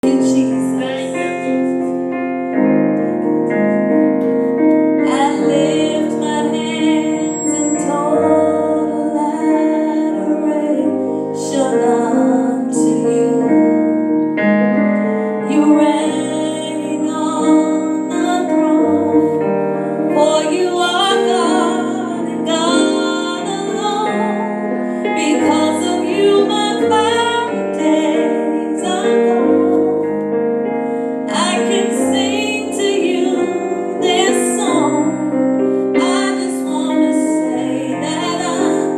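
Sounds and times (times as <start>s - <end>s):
woman singing: 0.0s - 1.4s, 5.0s - 14.1s, 15.4s - 30.1s, 31.2s - 38.9s
piano playing sustained chords: 0.0s - 38.9s.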